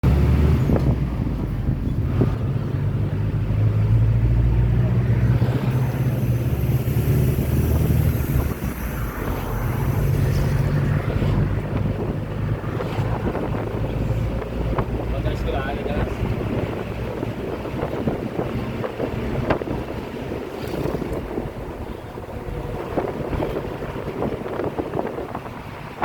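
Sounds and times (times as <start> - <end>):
bus engine drone: 0.0 - 26.0
road noise: 0.0 - 26.0
wind buffeting microphone: 0.0 - 26.0.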